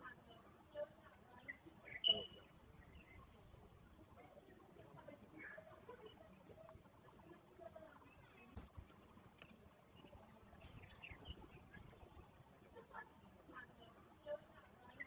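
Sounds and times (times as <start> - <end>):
faint high-pitched whine: 0.0 - 15.0
faint ticks: 0.2 - 15.0.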